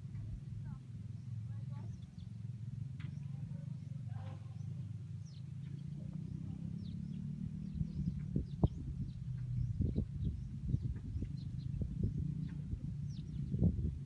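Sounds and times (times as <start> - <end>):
birds chirping faintly: 0.0 - 14.0
steady low hum: 0.0 - 14.0.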